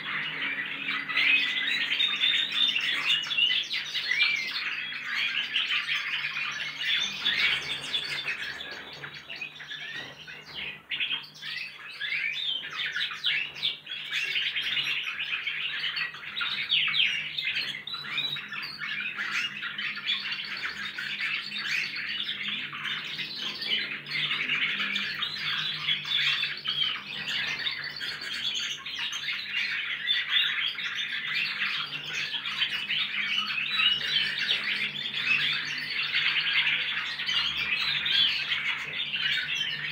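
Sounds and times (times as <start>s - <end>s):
finches twittering and warbling: 0.0s - 39.9s.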